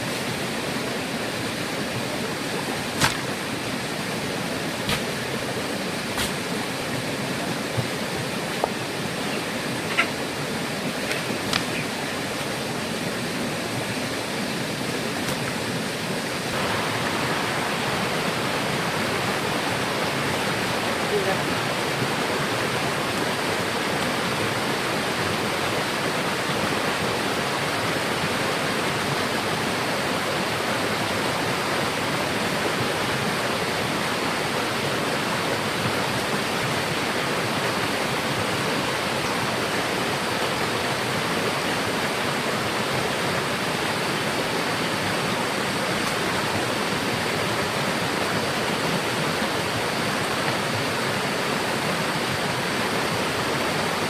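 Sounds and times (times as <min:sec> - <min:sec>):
rushing flowing water: 0:00.0 - 0:54.0.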